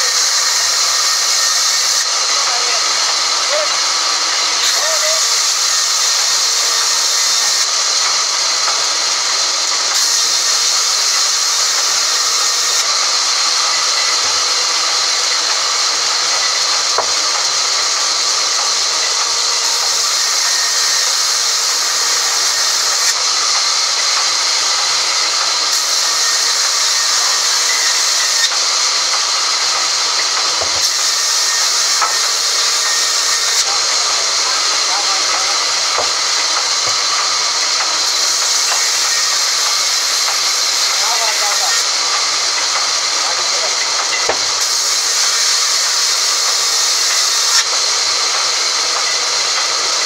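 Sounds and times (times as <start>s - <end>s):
band saw cutting log: 0.0s - 50.0s.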